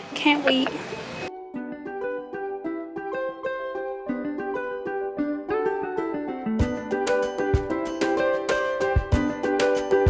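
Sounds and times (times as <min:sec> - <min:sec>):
plucked ukulele melody: 0:01.3 - 0:10.0.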